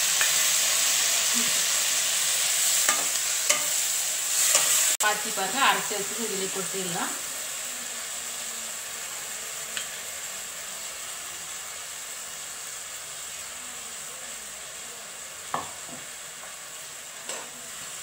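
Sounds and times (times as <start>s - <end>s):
syrup sizzling in a pan: 0.0s - 18.0s.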